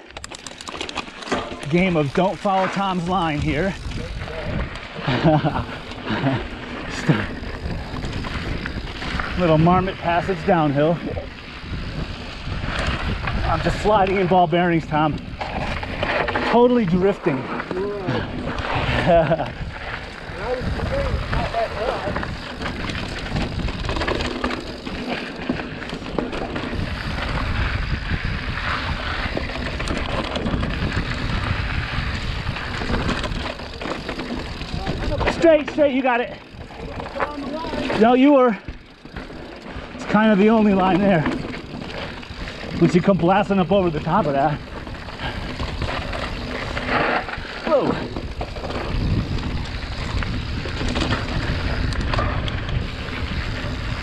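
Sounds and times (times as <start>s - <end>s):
bike rattles and clicks: 0.0s - 54.0s
tyres rumbling on loose ground: 0.0s - 54.0s
wind buffeting microphone: 1.6s - 54.0s.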